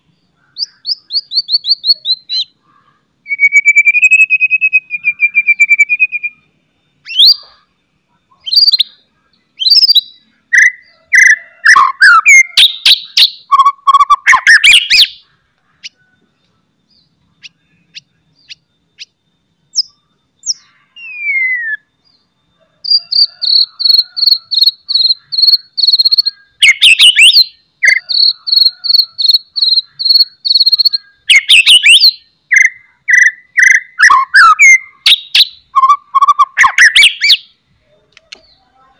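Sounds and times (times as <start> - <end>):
songbird singing whistles and rattles: 0.6 - 2.5, 3.3 - 7.6, 8.4 - 8.9, 9.6 - 15.2, 15.8 - 21.9, 22.8 - 37.5.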